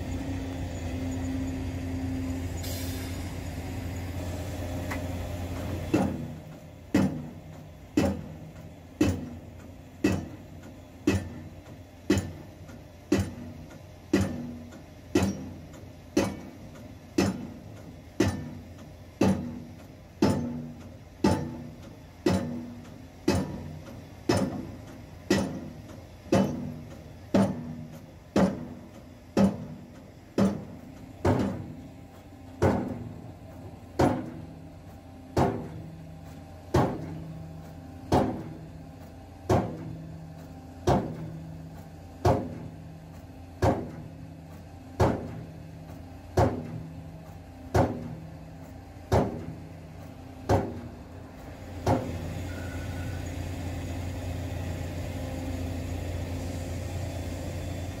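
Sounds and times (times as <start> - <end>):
engine hum: 0.0 - 58.0
pile driver hammering: 5.6 - 52.6.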